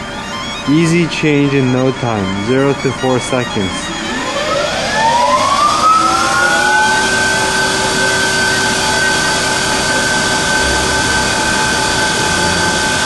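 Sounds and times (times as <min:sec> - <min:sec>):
lathe spindle whine: 0:00.0 - 0:13.0.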